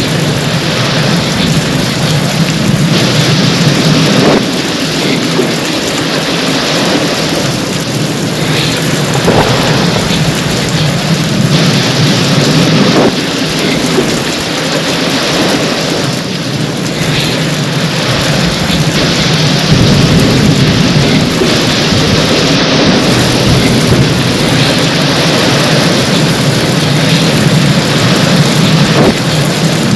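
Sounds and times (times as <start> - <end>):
heavy rain pouring: 0.0 - 29.9
low rumble of thunder: 0.0 - 29.9.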